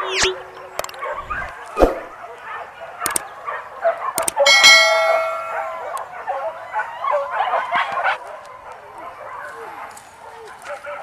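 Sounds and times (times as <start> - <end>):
hunting dogs baying and yelping: 0.2 - 11.0.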